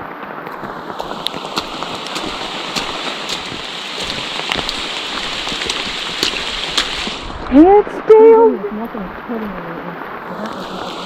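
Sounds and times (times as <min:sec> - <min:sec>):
steady rain: 0:00.0 - 0:11.0
raindrops ticking close by: 0:00.3 - 0:11.0.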